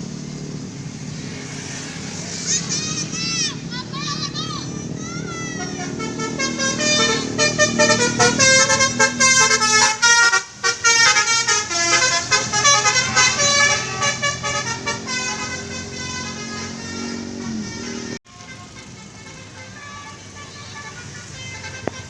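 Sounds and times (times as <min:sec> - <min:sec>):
bus multi-trumpet horn melody: 0:03.9 - 0:22.0.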